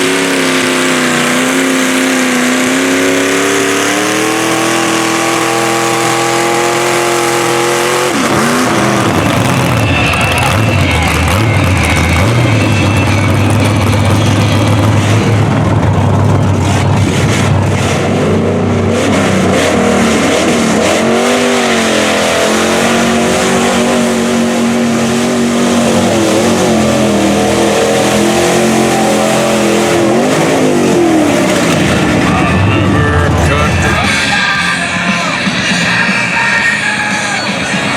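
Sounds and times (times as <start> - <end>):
truck engine revving hard: 0.0 - 37.9.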